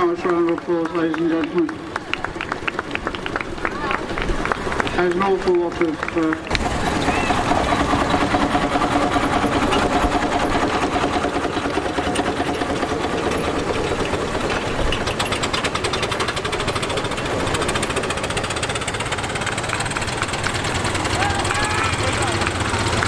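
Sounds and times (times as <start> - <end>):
model steam engines chuffing: 0.0 - 23.0.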